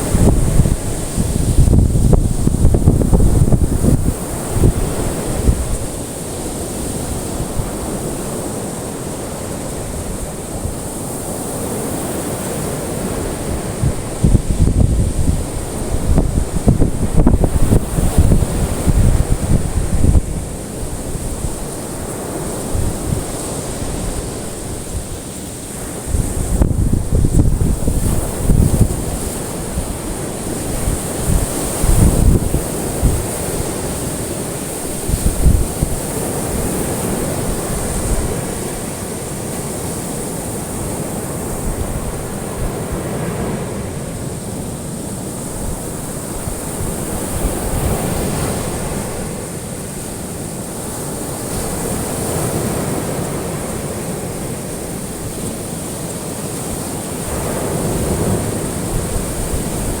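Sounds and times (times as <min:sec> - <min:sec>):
ocean waves washing onto shore: 0:00.0 - 1:00.0.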